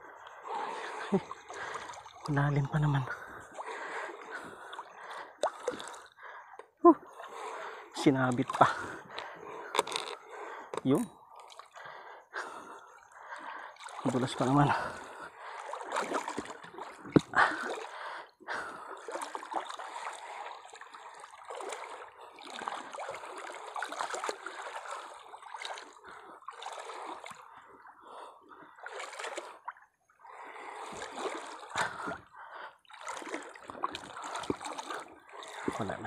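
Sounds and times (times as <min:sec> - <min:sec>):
seawater splashing and trickling: 0:00.0 - 0:36.0.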